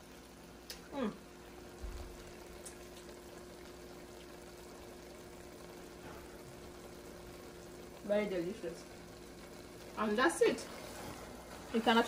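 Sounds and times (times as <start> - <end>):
low steady hum: 0.0 - 12.0
soup simmering in pot: 0.0 - 12.0.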